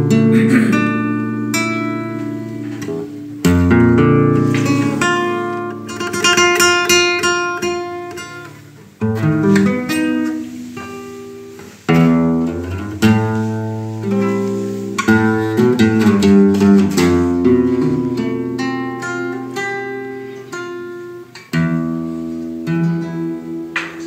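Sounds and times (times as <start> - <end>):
acoustic guitar folk tune: 0.0 - 24.0.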